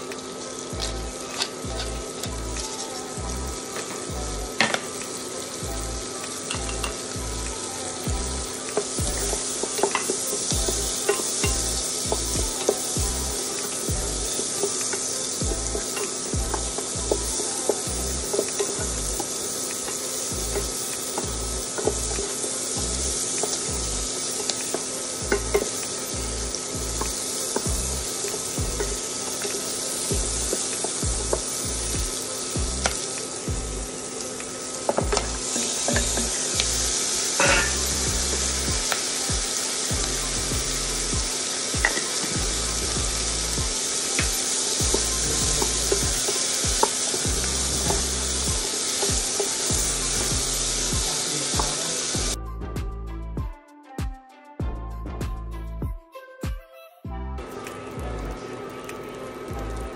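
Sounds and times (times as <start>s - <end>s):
onions sizzling in oil: 0.0s - 52.4s.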